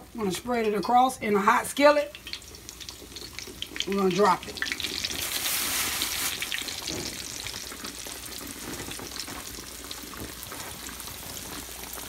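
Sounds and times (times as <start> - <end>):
grease popping: 1.6 - 12.0
fish sizzling in a skillet: 1.7 - 12.0.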